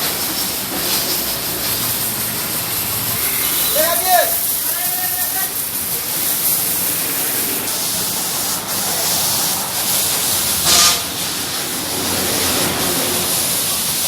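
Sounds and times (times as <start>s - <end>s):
pressure washer spraying: 0.0s - 14.0s.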